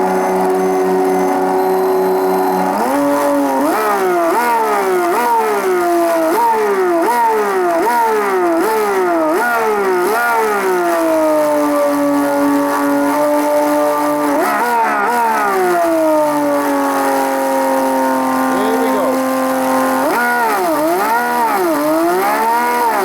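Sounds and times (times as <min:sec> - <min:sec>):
slot car engine whine: 0:00.0 - 0:23.0.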